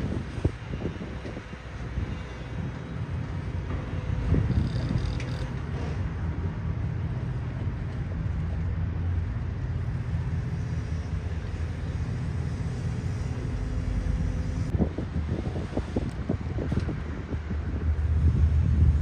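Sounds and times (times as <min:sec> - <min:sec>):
low rumble of background noise: 0:00.0 - 0:19.0.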